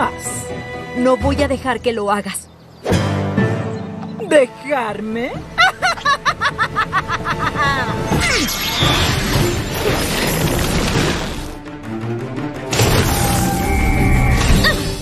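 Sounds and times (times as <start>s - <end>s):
dramatic cartoon music: 2.9s - 15.0s.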